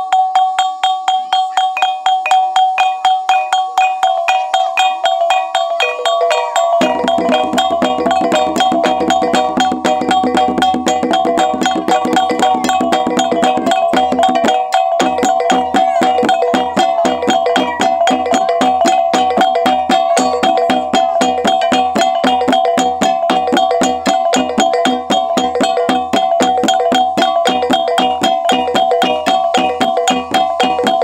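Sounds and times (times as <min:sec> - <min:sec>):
drum beats: 0:00.0 - 0:31.0
ringing gongs: 0:00.0 - 0:31.0.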